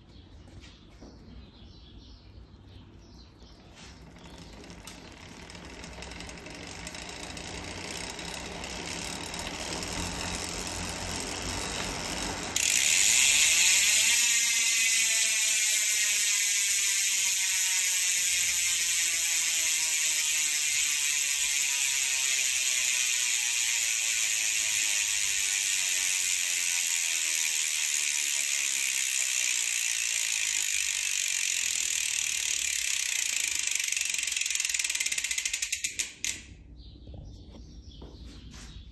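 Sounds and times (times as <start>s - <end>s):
bicycle wheel whirring: 3.3s - 36.6s
freehub freewheel buzz: 3.4s - 36.6s.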